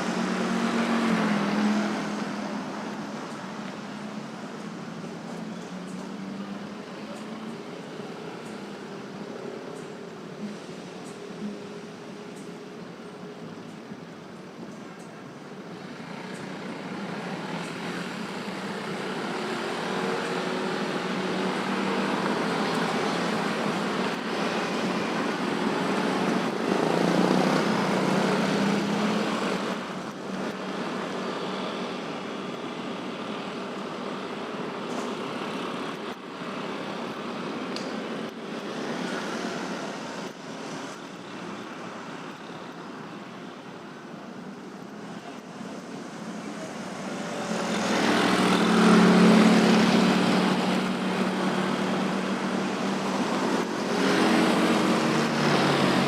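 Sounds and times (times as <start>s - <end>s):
busy road traffic passing: 0.0s - 56.0s.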